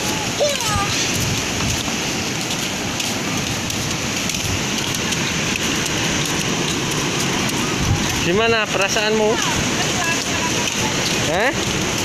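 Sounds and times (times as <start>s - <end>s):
ocean surf breaking on concrete: 0.0s - 12.0s.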